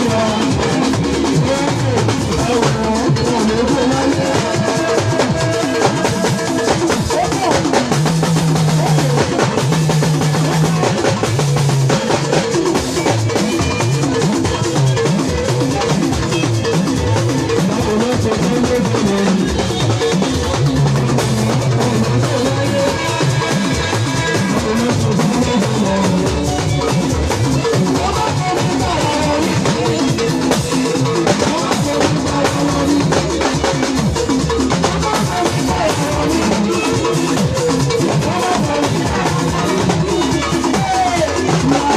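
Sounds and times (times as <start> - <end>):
drum kit beat: 0.0 - 41.9
gospel band music: 0.0 - 41.9.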